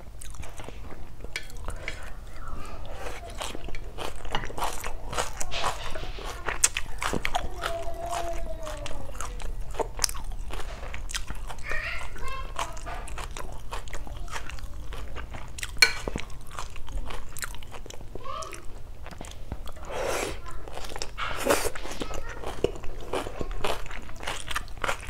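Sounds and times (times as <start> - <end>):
close chewing with crunches: 0.0 - 25.0.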